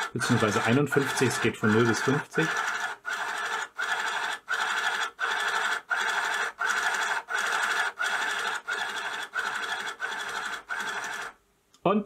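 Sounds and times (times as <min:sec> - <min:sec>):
thermal printer whirring: 0:00.0 - 0:11.4.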